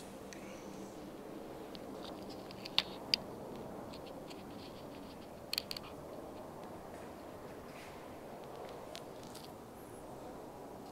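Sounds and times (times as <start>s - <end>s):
low room hum: 0.0s - 10.9s.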